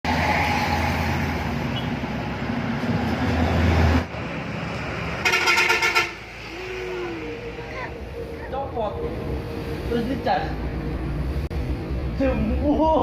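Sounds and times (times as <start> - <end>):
heavy truck engine rumbling: 0.1 - 13.0.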